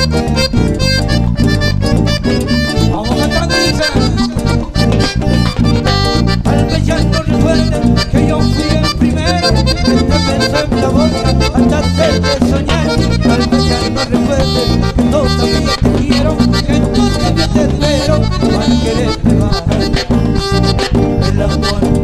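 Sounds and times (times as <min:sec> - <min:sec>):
accordion melody: 0:00.0 - 0:22.0
bass guitar: 0:00.0 - 0:22.0
percussion dance beat: 0:00.0 - 0:22.0.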